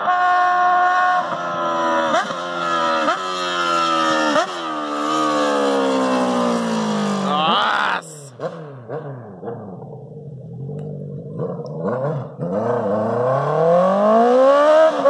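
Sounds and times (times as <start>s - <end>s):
motorcycle engine revving through gears: 0.2s - 7.3s, 8.3s - 15.0s.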